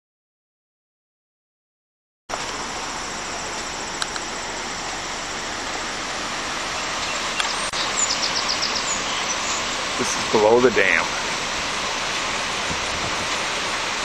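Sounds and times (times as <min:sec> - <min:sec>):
floodwater rushing: 0:02.3 - 0:14.0.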